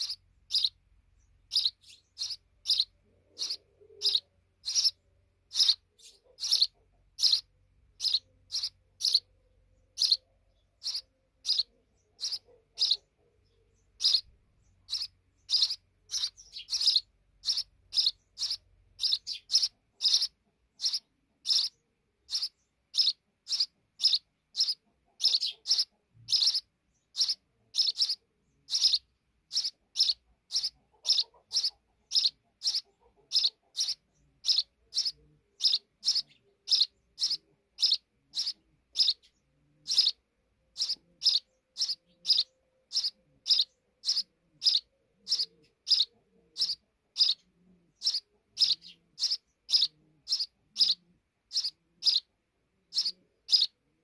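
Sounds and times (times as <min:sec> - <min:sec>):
nestlings chirping: 0:00.0 - 0:54.0.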